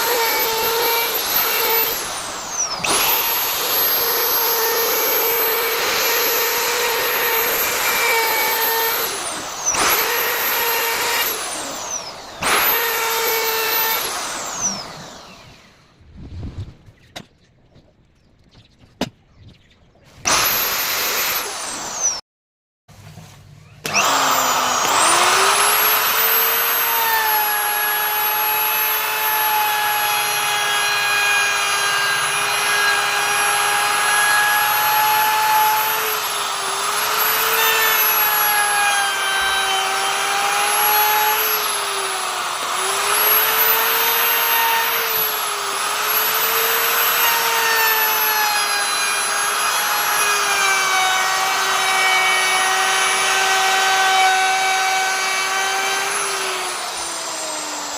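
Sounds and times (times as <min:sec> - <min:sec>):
wood router whining: 0:00.0 - 0:16.0, 0:20.2 - 0:22.2, 0:23.6 - 0:57.9.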